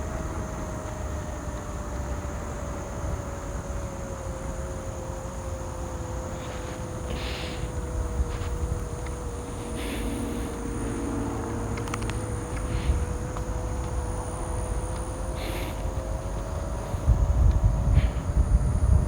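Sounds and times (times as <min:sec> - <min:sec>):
electric motor whine: 0:00.0 - 0:19.0
wind: 0:00.0 - 0:19.0.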